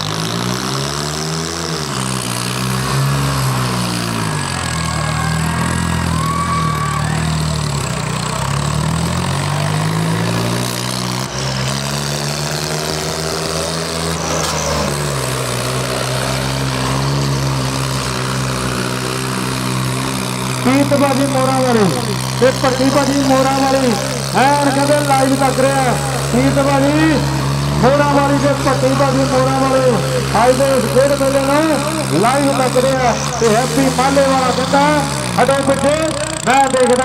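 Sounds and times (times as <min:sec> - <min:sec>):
tractor diesel engine revving: 0:00.0 - 0:37.0.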